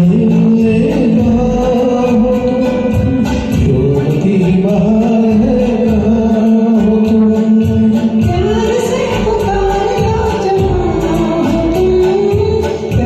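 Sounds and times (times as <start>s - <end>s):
karaoke backing track: 0.0s - 13.0s.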